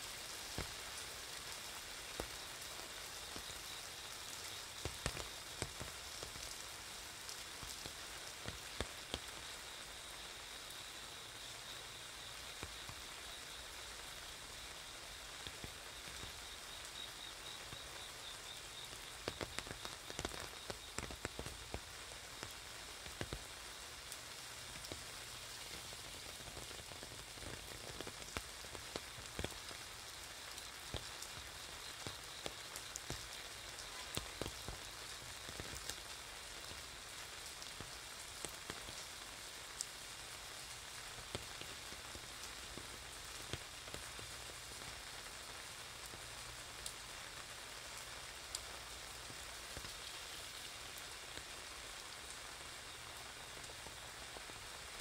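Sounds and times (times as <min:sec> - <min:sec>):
rain hissing on wet street: 0:00.0 - 0:55.0
raindrops ticking on umbrella: 0:00.0 - 0:55.0.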